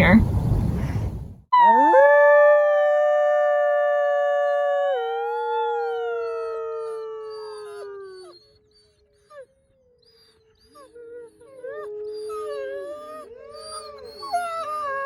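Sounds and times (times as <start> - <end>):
wolf howling: 1.6 - 9.5, 10.6 - 15.0.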